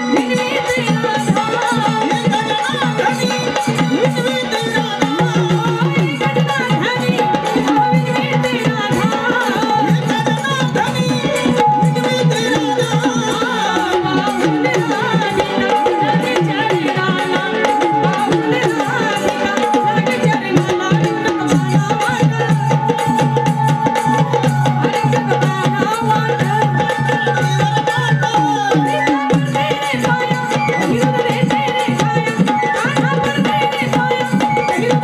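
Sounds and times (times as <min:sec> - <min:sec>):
amplified folk singing: 0:00.0 - 0:35.0
drums playing busy beat: 0:00.0 - 0:35.0.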